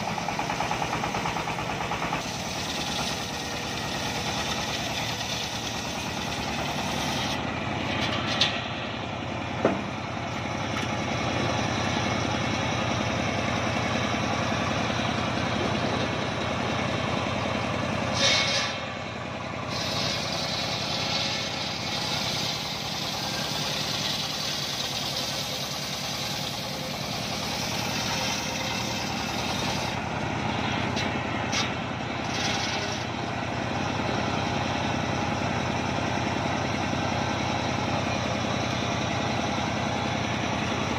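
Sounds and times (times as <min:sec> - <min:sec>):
circular sawmill cutting log: 0:00.0 - 0:40.9.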